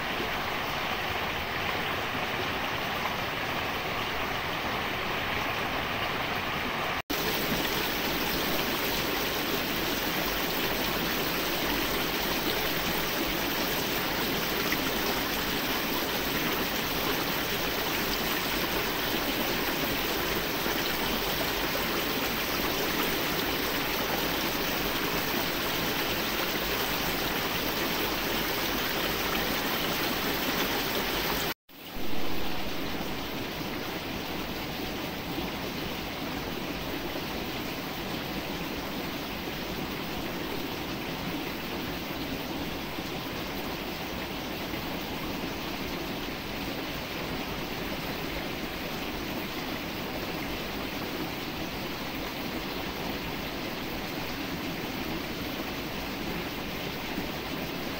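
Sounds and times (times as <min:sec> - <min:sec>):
stream water flowing: 0:00.0 - 0:57.9.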